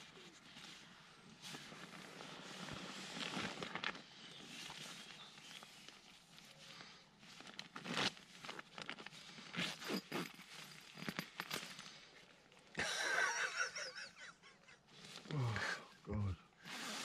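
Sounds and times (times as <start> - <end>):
camping gear rustling and crinkling: 0.0 - 14.0, 14.8 - 16.0, 16.6 - 17.0.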